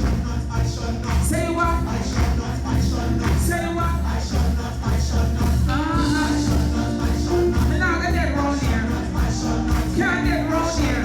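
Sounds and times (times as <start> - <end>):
band with heavy bass: 0.0 - 11.0
person singing: 0.0 - 11.0.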